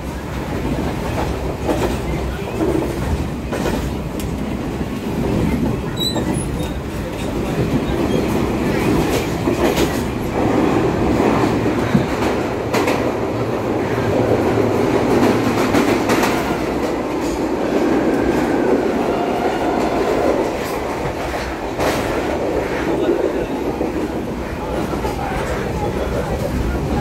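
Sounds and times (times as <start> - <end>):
train wheels on rails: 0.0 - 27.0.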